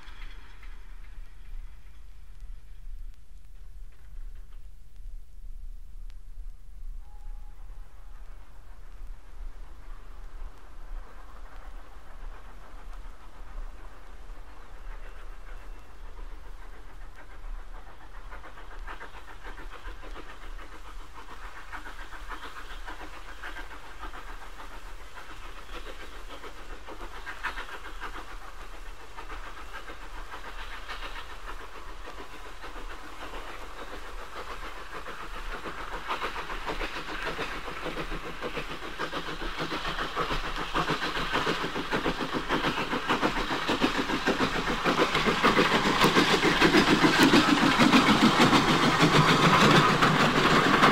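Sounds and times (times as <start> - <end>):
steam locomotive exhaust beats: 0.0 - 50.9.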